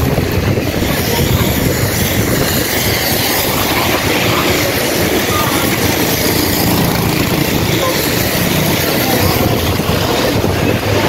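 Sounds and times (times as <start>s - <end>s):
traffic on wet street: 0.0s - 11.0s
wind rumble on microphone: 0.0s - 11.0s.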